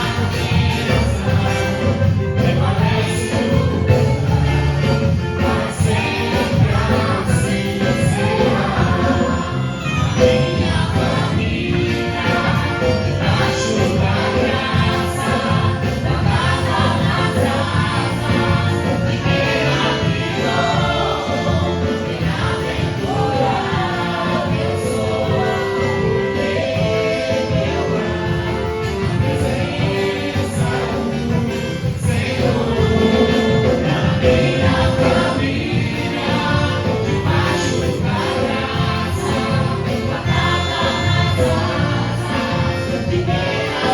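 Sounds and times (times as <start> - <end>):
instrumental backing with steady beat: 0.0 - 43.9
voices singing together: 0.0 - 43.9.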